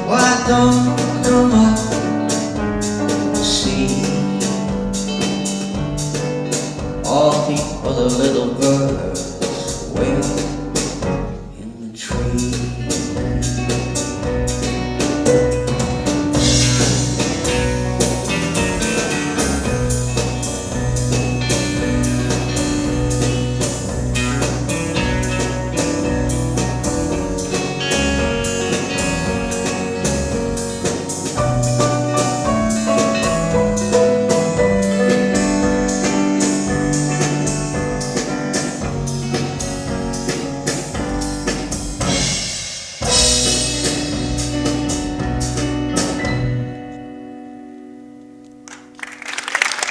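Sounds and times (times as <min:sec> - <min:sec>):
live band playing: 0:00.0 - 0:47.3.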